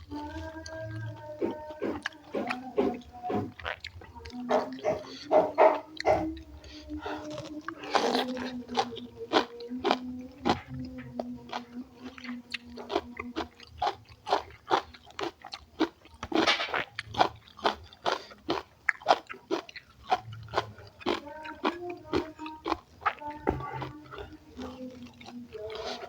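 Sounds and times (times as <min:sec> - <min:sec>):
sharp chewing crunches: 0:00.1 - 0:26.0.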